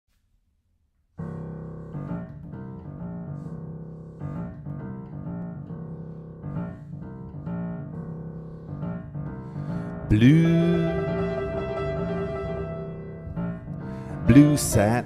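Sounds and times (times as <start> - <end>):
upright piano playing chords: 1.2 - 15.0.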